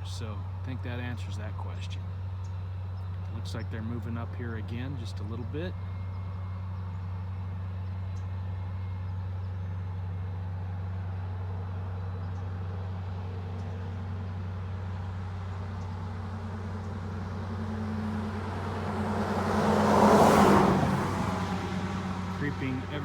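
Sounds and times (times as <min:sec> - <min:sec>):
diesel locomotive drone: 0:00.0 - 0:23.0
road vehicle passing: 0:00.0 - 0:23.0.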